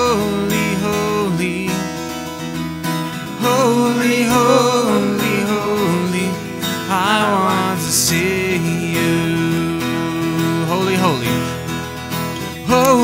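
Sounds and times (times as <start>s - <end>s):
man singing: 0.0s - 2.4s, 3.1s - 11.6s, 12.4s - 13.0s
acoustic guitar strumming: 0.0s - 13.0s.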